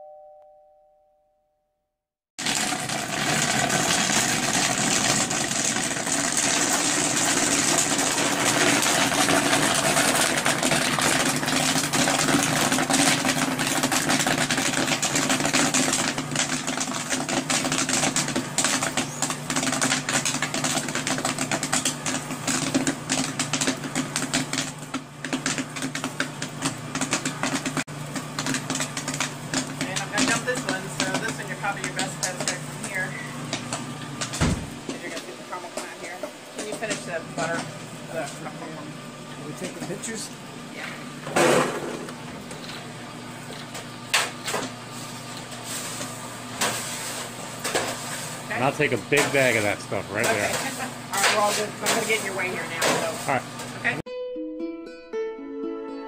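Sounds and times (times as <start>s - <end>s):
popcorn popping: 2.4s - 54.0s.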